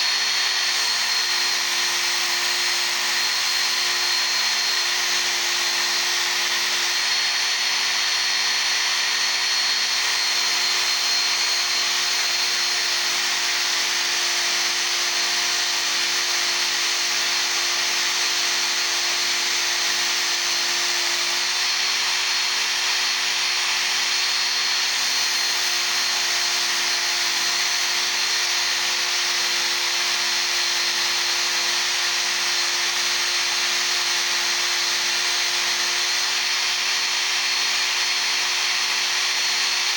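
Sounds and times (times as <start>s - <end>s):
belt sharpener grinding steel: 0.0s - 39.9s.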